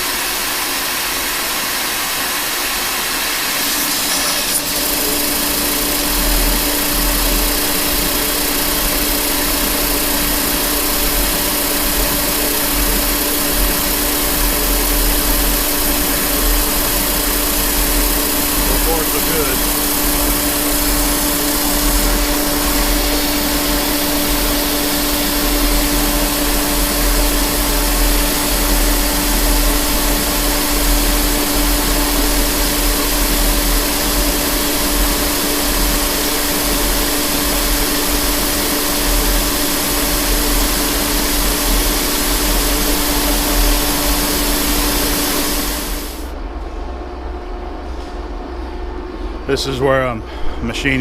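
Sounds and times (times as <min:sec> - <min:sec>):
lathe machine hum: 0:00.0 - 0:46.4
lathe cutting hiss: 0:00.6 - 0:46.3.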